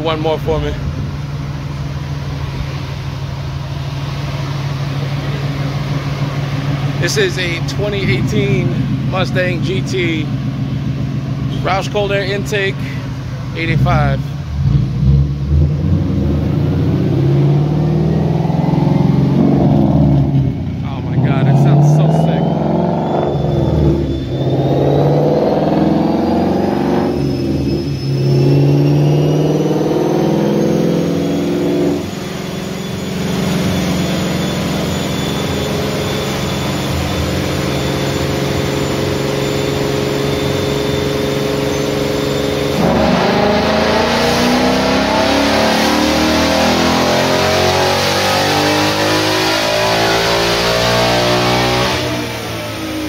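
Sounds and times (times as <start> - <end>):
car engine revving on dyno: 0.0 - 53.0.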